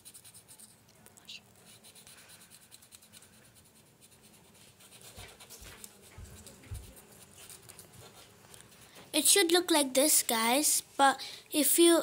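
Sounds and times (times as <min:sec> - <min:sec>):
marker scratching on paper: 0:00.0 - 0:09.8.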